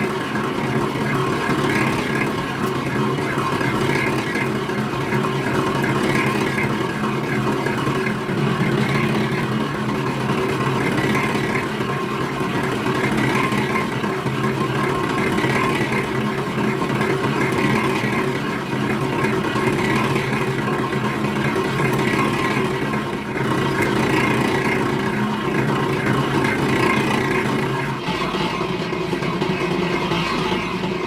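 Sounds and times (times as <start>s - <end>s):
factory machinery humming: 0.0s - 31.0s.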